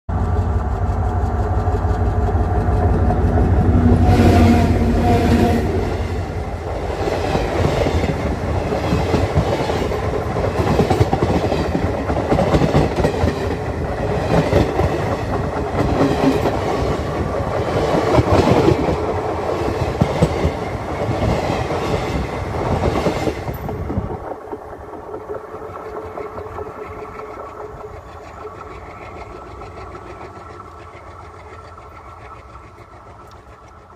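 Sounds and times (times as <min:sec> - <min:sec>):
train passing overhead rumbling: 0:00.1 - 0:33.9.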